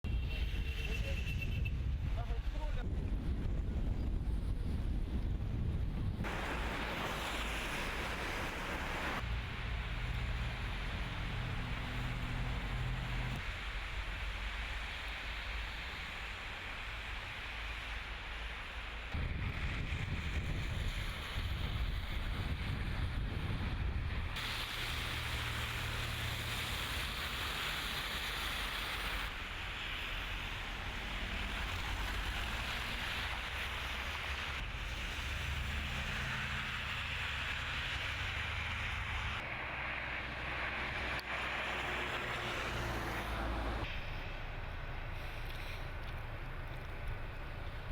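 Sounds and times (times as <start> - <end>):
wind: 0.0 - 47.9
low rumble of traffic: 0.1 - 47.9.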